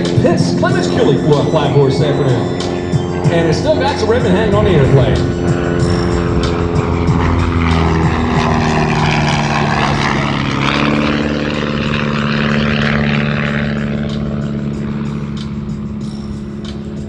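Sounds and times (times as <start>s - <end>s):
propeller plane passing: 0.0s - 17.0s.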